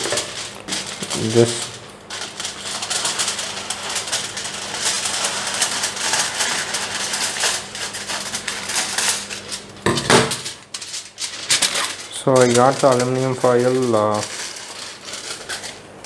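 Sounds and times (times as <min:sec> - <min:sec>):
scissors cutting foil: 0:00.0 - 0:15.8
kitchen foil crinkling: 0:00.0 - 0:16.0.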